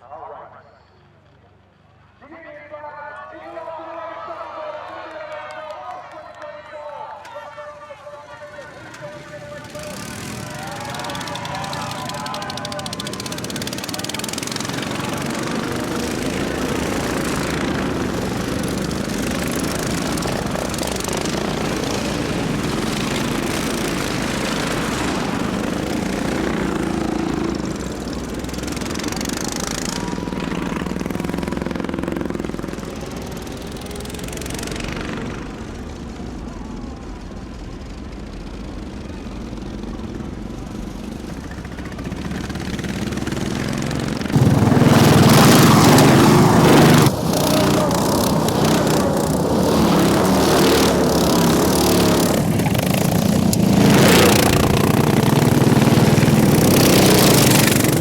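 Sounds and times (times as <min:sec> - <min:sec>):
racing lawnmower engines passing: 0:08.0 - 0:58.0.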